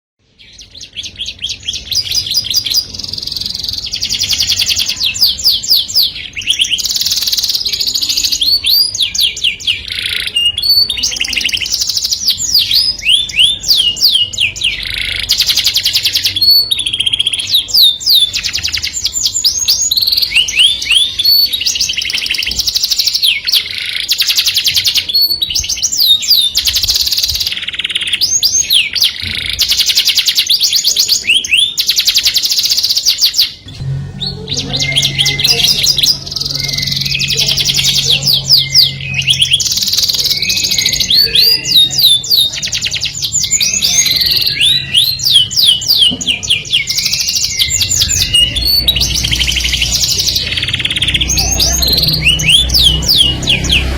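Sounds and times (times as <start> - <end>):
canary singing: 0.2 - 53.9.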